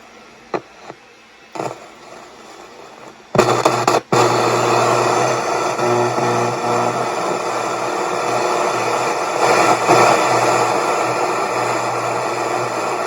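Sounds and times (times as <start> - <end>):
radio static hiss with hum: 0.0 - 13.0
radio control clicks: 1.6 - 13.0.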